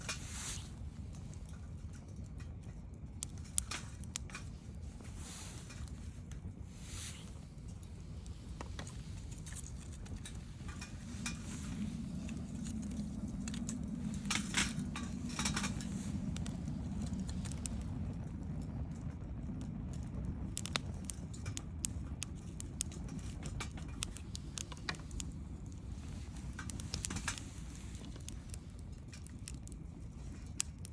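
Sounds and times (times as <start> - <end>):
low steady rumble: 0.0 - 30.9
wood fire crackling and popping: 0.0 - 30.9.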